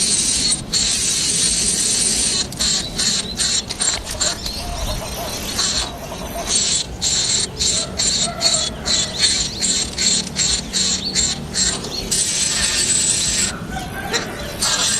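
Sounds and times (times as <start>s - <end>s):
chick giving hissing squawks: 0.0s - 14.9s.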